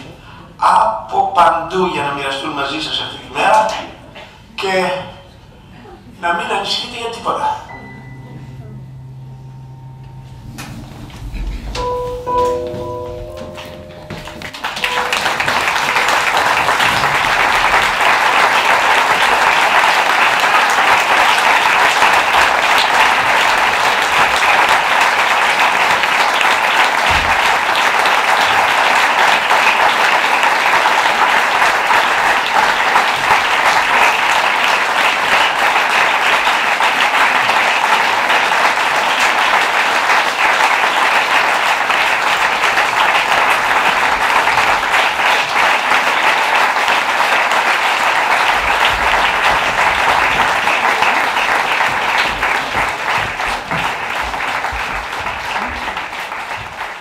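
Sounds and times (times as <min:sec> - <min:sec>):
audience applauding: 0:10.4 - 0:57.0.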